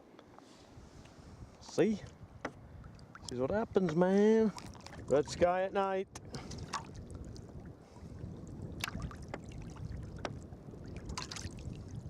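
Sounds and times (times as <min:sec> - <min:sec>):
water sloshing against hull: 0:00.4 - 0:12.0.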